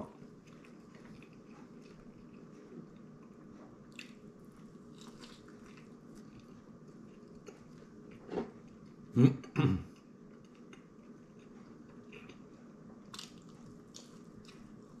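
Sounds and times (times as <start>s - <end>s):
man chewing food: 0.0s - 9.1s, 9.9s - 15.0s.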